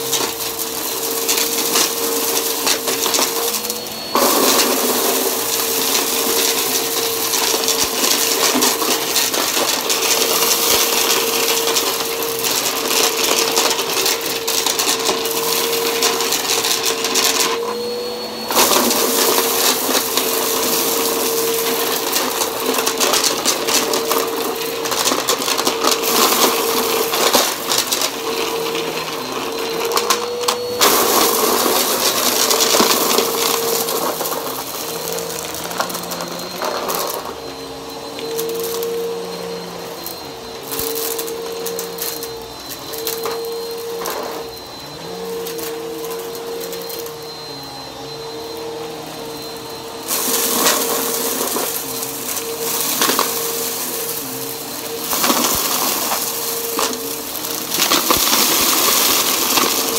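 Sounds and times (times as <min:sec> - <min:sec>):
debris rattling in vacuum: 0:00.0 - 0:59.9
vacuum cleaner motor whine: 0:00.0 - 0:59.9.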